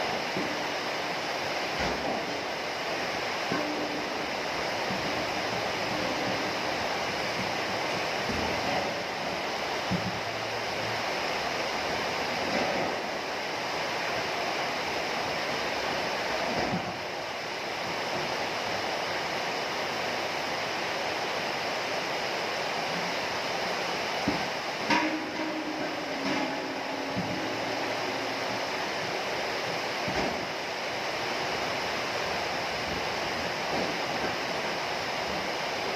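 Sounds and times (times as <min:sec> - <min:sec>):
heavy rain: 0:00.0 - 0:35.9.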